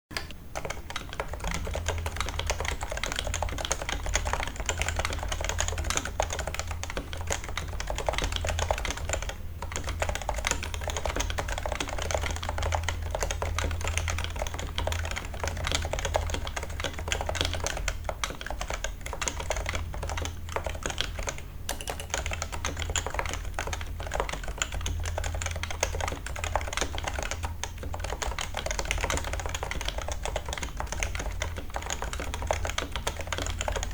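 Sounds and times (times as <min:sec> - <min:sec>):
fast keyboard typing: 0:00.1 - 0:33.9.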